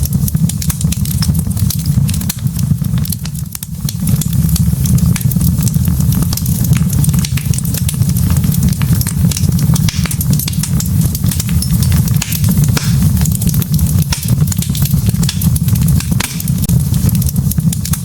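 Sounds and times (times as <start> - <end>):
log fire crackling: 0.0 - 18.0
low rumble of flames: 0.0 - 18.0.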